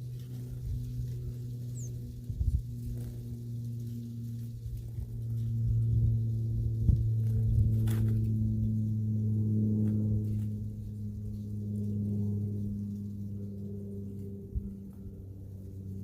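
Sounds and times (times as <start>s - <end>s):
low hum with overtones: 0.0s - 16.0s.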